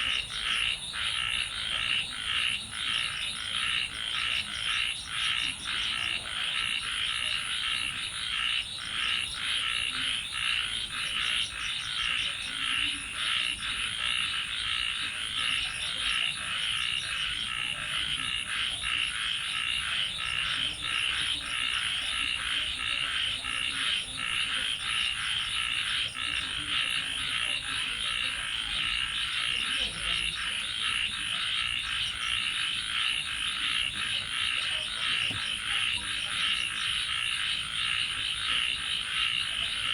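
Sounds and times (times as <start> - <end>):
frogs croaking in chorus: 0.0 - 39.9.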